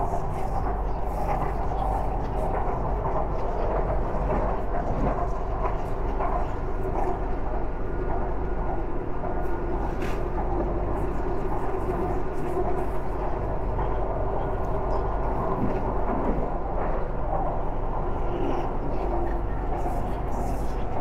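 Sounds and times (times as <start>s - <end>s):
train car running noise: 0.0s - 21.0s.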